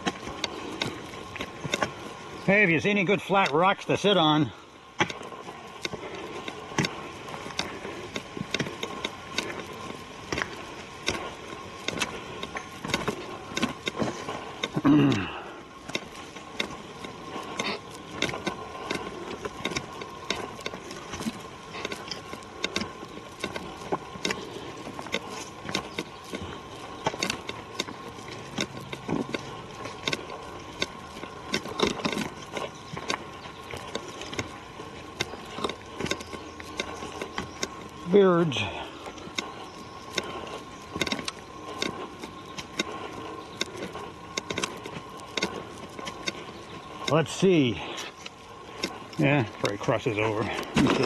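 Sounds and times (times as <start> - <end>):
footsteps crackling twigs and leaves: 0.0 - 51.0.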